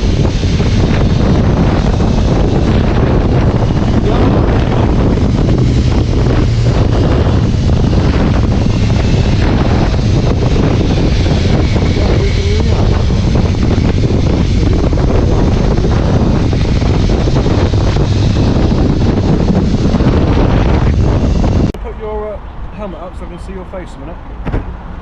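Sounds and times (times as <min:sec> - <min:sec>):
vehicle running: 0:00.0 - 0:25.0
wind buffeting microphone: 0:00.0 - 0:25.0.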